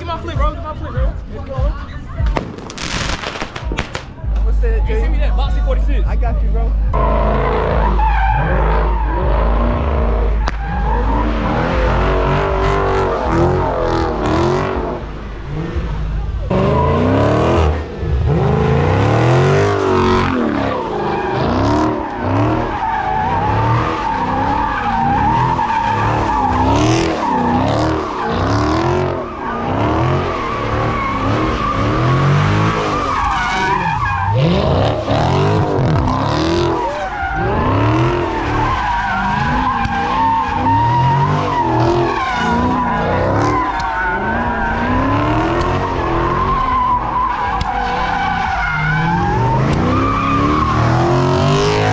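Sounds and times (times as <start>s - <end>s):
car engine revving: 6.9s - 51.9s.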